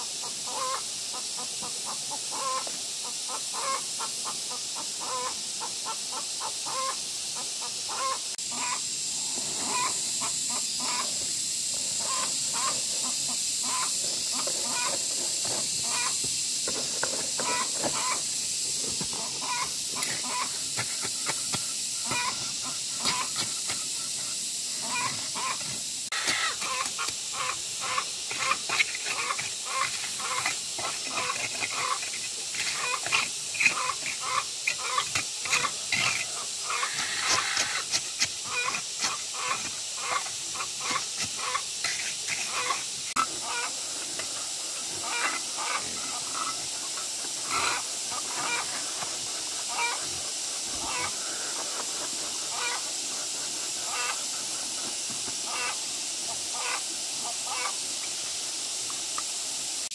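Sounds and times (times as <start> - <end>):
domestic fowl calling: 0.0 - 8.9, 9.6 - 18.4, 19.0 - 57.8
steady high hiss: 0.0 - 59.9.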